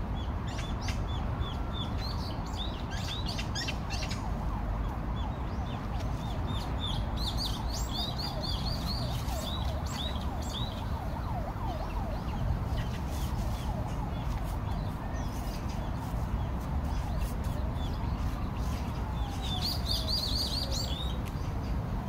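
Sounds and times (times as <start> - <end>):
birds chirping: 0.2 - 22.0.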